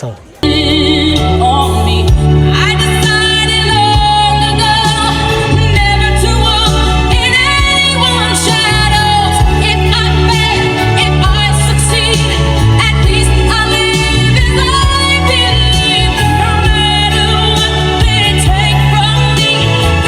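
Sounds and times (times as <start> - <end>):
heavy bass: 0.4 - 20.0
pop song on car stereo: 0.4 - 20.0
woman singing: 0.4 - 20.0.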